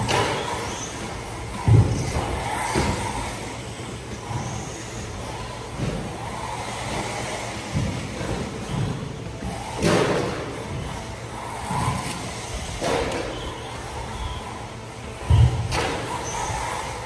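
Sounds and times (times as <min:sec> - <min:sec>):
tyre noise: 0:00.0 - 0:17.0.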